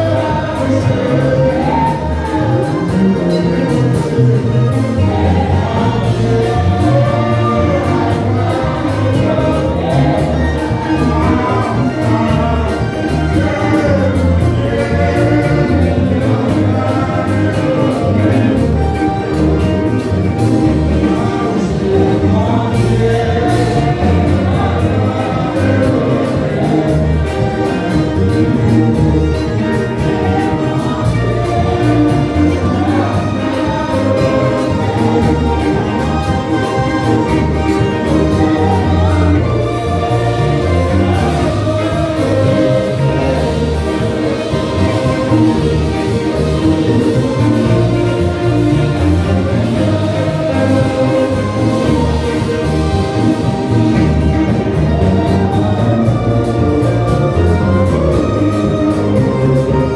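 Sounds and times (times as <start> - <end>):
amplified band with guitar and bass: 0.0 - 59.9
worship team singing: 0.0 - 59.9.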